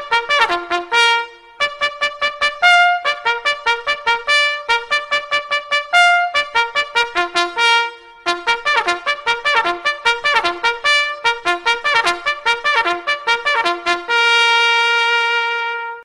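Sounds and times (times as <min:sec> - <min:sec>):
trumpet fanfare: 0:00.0 - 0:16.0.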